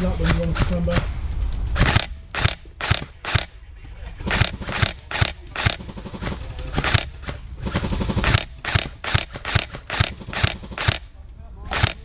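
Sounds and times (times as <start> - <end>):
airsoft rifle shots: 0.0 - 12.0.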